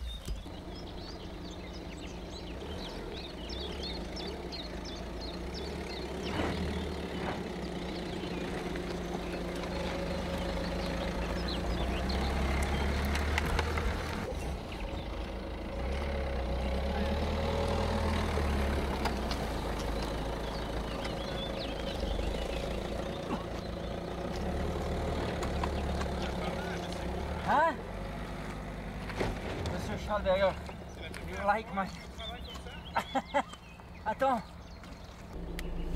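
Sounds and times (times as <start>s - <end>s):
car engine at low revs: 0.0s - 35.9s.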